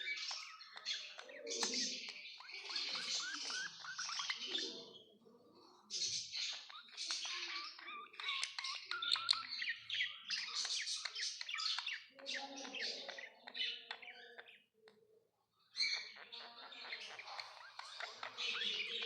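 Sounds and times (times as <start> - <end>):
budgerigars chirping: 0.0 - 5.2, 5.8 - 14.8, 15.7 - 19.0.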